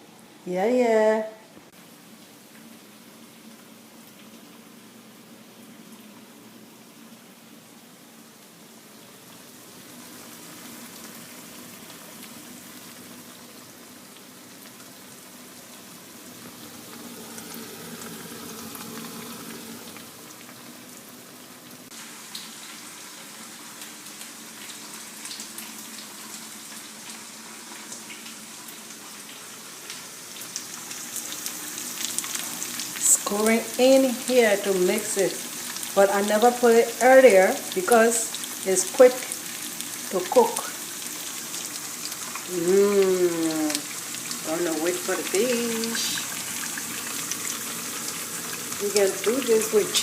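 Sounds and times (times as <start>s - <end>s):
food sizzling in a pan: 1.8s - 50.0s.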